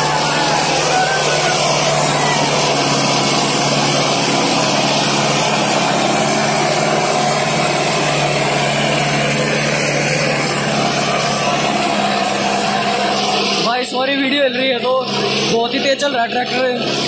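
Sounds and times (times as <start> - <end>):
loud rushing noise: 0.0 - 15.7
tractor diesel engine under load: 0.0 - 17.0.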